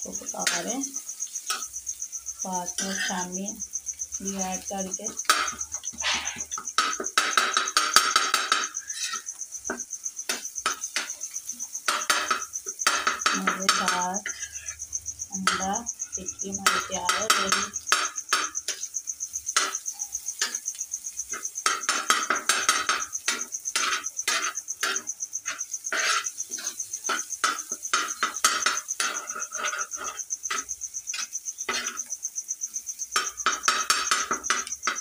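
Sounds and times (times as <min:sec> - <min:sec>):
metal spatula scraping on griddle: 0:00.1 - 0:03.4, 0:04.2 - 0:32.2, 0:33.0 - 0:35.0.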